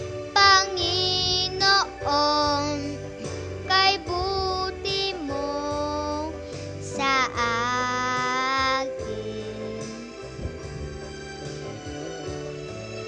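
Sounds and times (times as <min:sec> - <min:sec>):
instrumental backing music: 0:00.0 - 0:13.0
girl singing: 0:00.3 - 0:10.8.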